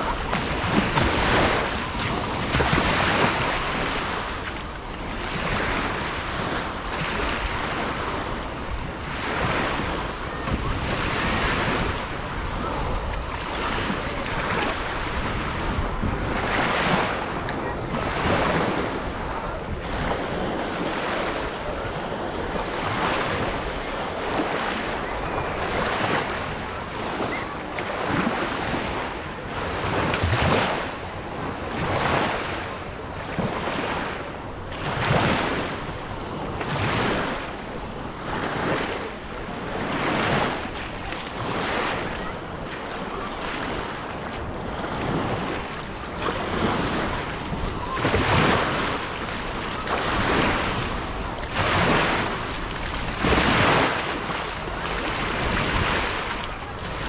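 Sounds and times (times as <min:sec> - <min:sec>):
surf washing onto beach: 0:00.0 - 0:57.0
wind buffeting microphone: 0:00.0 - 0:57.0.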